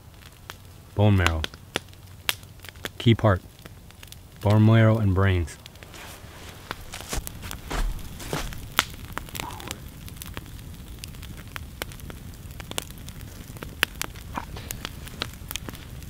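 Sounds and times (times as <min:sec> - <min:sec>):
campfire crackling: 0:00.0 - 0:16.0
fire pops and snaps: 0:00.0 - 0:16.0.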